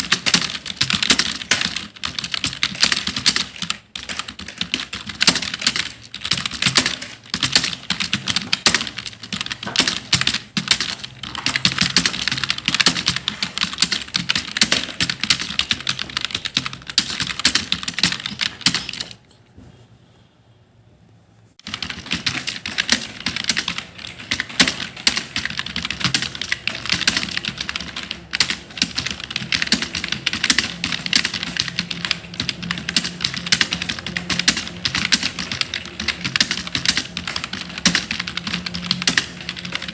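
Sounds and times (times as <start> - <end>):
fast typing on computer keyboard: 0.0 - 19.2, 21.6 - 39.9.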